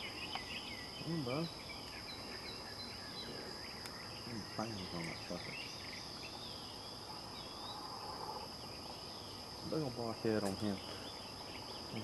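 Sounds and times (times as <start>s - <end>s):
insects droning: 0.0s - 12.0s
small birds chirping: 0.0s - 12.0s.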